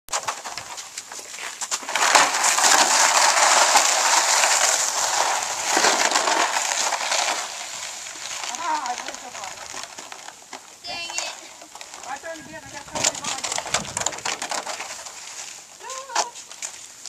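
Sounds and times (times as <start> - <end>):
icy snow crunching and scraping: 0.1 - 17.0.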